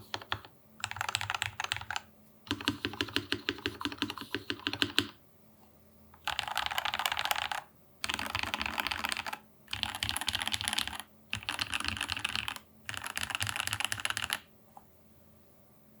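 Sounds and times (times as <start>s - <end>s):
fast mechanical keyboard typing: 0.0s - 5.2s, 6.2s - 14.4s.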